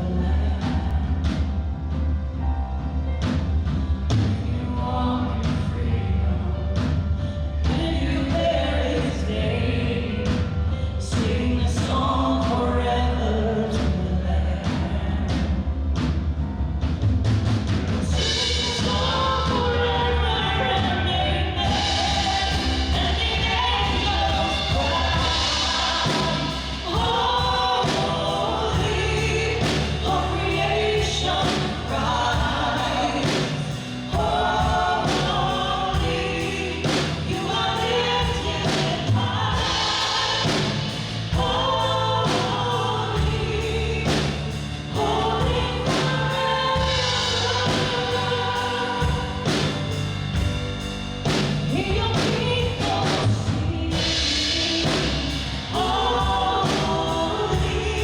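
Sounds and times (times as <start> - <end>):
group voices singing: 0.0 - 1.5, 7.7 - 15.4, 18.0 - 50.6, 51.3 - 58.0
band with bass and drums: 0.0 - 58.0.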